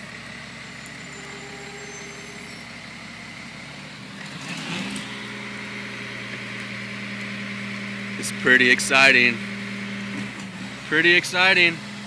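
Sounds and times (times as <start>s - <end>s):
garbage truck diesel engine: 0.0s - 12.0s.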